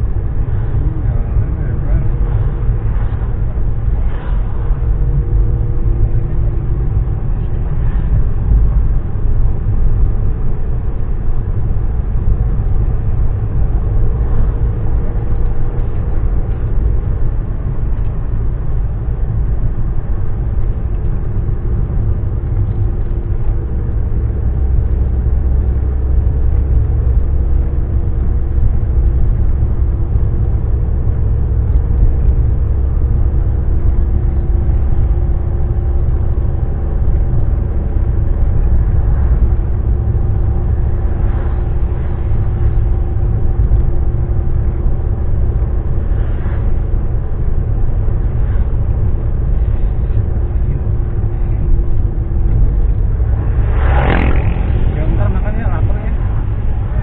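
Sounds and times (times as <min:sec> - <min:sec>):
engine and tyre rumble inside car: 0:00.0 - 0:57.0
faint engine hum: 0:00.0 - 0:57.0.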